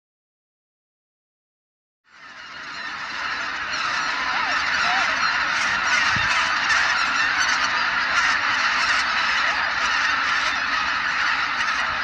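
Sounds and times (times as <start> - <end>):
flock of waterfowl calling: 2.1 - 12.0.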